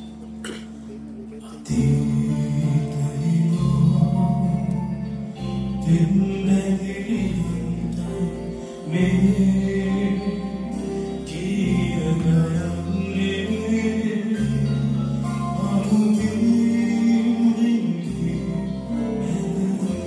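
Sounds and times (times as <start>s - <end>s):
live band music: 0.0s - 20.0s
man singing: 1.3s - 20.0s.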